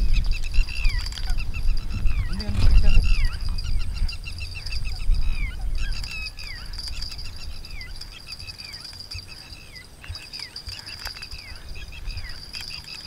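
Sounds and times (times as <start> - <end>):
birds chirping: 0.0 - 13.0
steady high-pitched hum: 0.0 - 13.0
wind rumble on microphone: 0.0 - 13.0.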